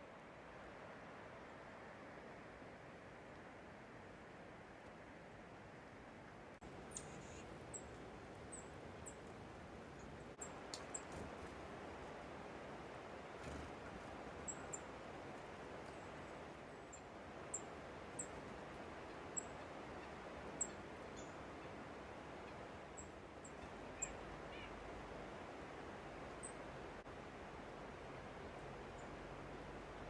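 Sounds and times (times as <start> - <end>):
low outdoor hiss: 0.0 - 30.0.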